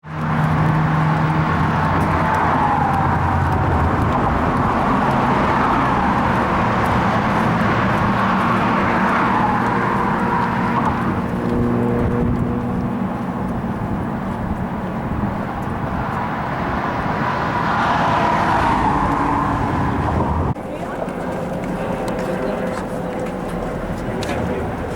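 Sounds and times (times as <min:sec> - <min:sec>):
car engine: 0:00.0 - 0:20.6
road noise: 0:00.0 - 0:24.9.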